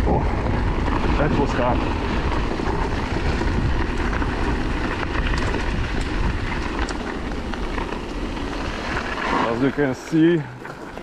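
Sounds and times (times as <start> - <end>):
wind on microphone: 0.0 - 9.4
tyres rolling on gravel: 0.0 - 11.0.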